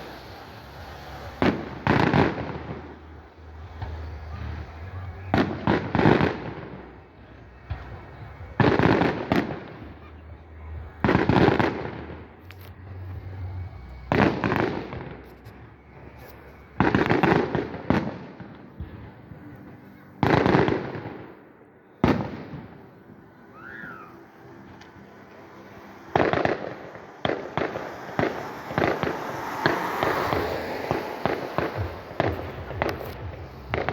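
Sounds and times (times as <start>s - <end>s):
loud firework bangs: 0.0s - 21.4s, 22.0s - 24.1s, 25.6s - 33.9s.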